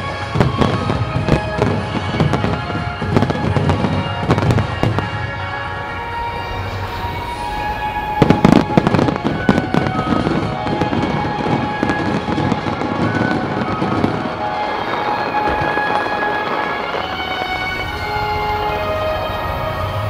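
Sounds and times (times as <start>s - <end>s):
fireworks bursting: 0.0s - 20.0s
fireworks popping and crackling: 0.0s - 20.0s
show music: 0.0s - 20.0s.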